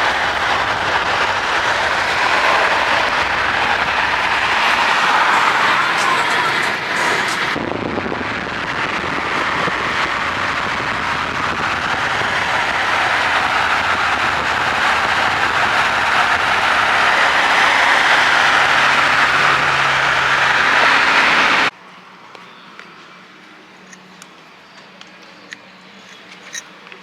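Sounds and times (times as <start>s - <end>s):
car road and wind noise: 0.0s - 22.3s.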